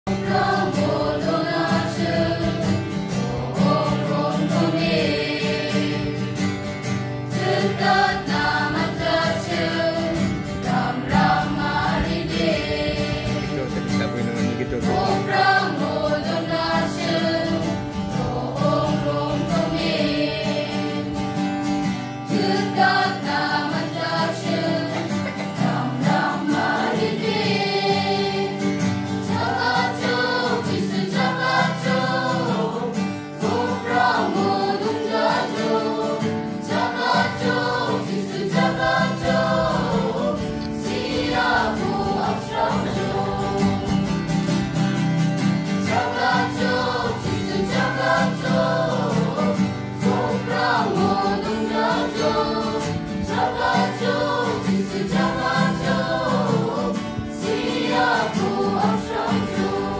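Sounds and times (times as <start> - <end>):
young choir singing: 0.1 - 13.8, 14.7 - 59.9
strummed acoustic guitar: 0.1 - 59.9.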